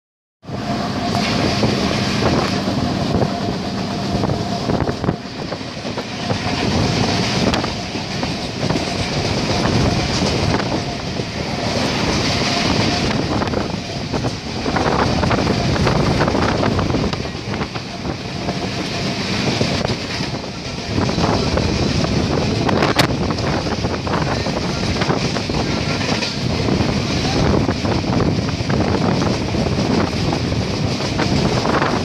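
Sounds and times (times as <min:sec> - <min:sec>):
train running noise: 0:00.4 - 0:32.0.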